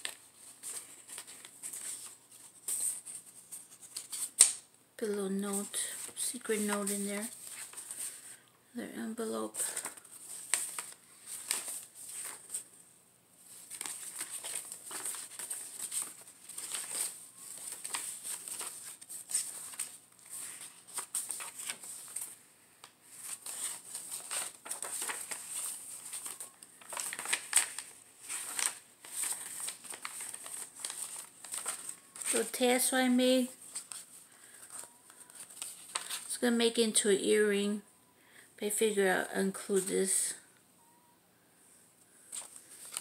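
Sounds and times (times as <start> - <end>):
paper pages rustling and crinkling: 0.0 - 4.6, 5.3 - 8.4, 9.5 - 12.7, 13.4 - 36.3, 42.2 - 43.0.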